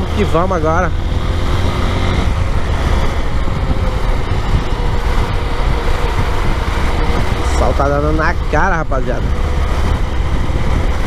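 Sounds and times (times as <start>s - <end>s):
motorcycle engine humming: 0.0s - 11.0s
wind rushing over microphone: 0.0s - 11.0s.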